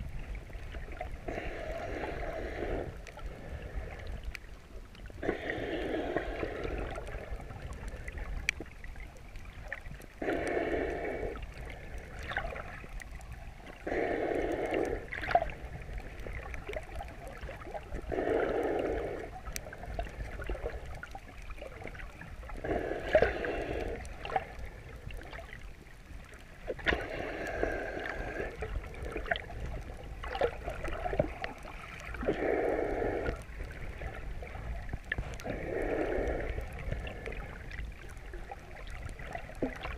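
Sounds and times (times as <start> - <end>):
low water rumble: 0.0 - 39.9
muffled underwater breathing: 0.5 - 8.5, 9.4 - 25.6, 26.3 - 39.9.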